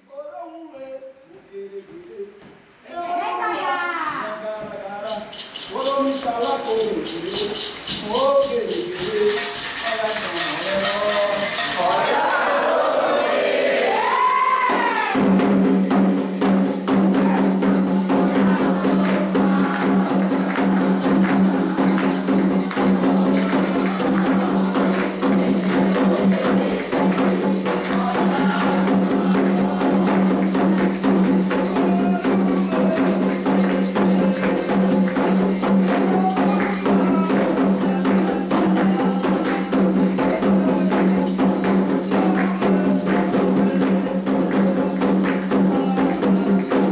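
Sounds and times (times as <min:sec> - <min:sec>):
light percussion: 0:04.6 - 0:46.9
fast hand drumming: 0:05.1 - 0:13.1, 0:13.8 - 0:46.9.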